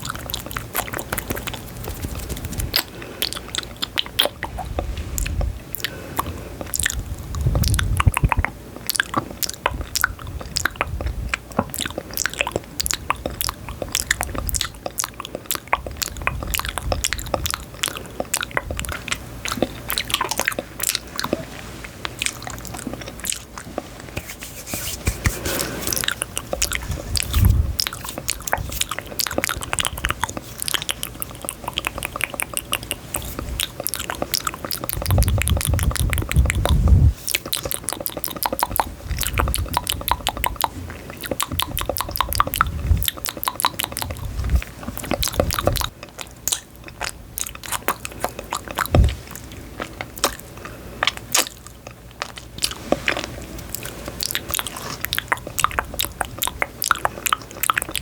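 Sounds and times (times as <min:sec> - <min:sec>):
chewing something crisp: 0:00.0 - 0:58.0.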